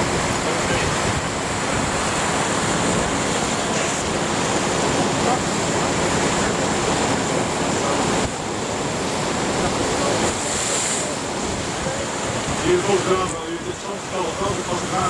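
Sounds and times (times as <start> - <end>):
water rushing through a channel: 0.0 - 15.0.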